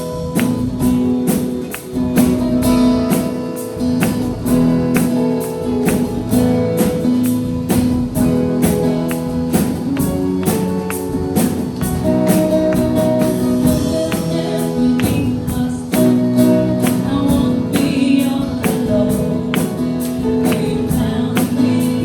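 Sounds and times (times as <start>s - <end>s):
percussive beat: 0.0s - 22.0s
strummed guitar chords: 0.0s - 22.0s.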